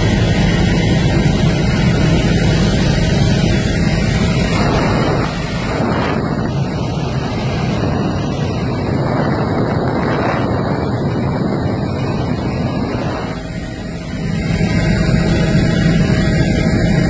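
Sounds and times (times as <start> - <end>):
helicopter engine and rotor noise: 0.0 - 17.0
wind on microphone: 0.0 - 17.0.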